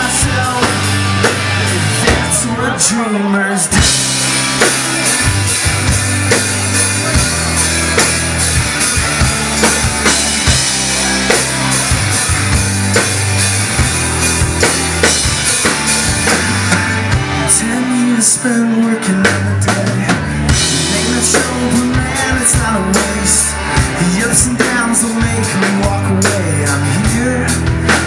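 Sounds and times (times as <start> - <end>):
drum kit beat: 0.0 - 2.6, 3.7 - 28.0
electric guitars: 0.0 - 28.0.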